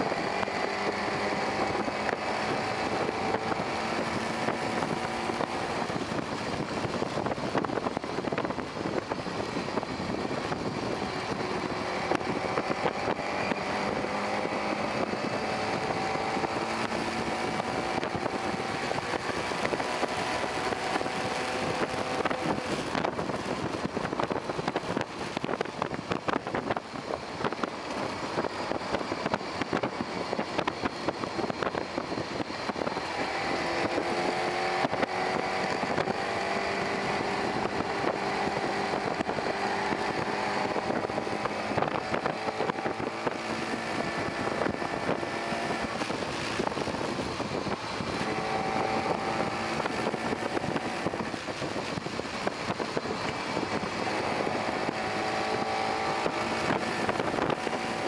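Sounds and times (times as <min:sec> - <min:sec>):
electric motor whine: 0:00.0 - 0:58.0
wind and road noise: 0:00.0 - 0:58.0.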